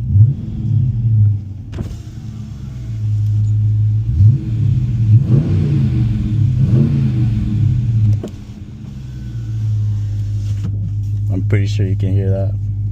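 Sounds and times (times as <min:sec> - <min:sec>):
air intake swooshing: 0:00.0 - 0:11.3
car engine idling and revving: 0:00.0 - 0:12.9.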